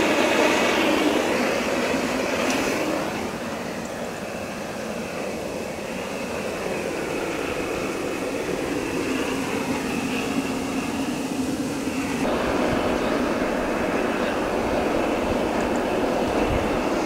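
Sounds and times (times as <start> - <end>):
blowtorch roaring: 0.0 - 17.0.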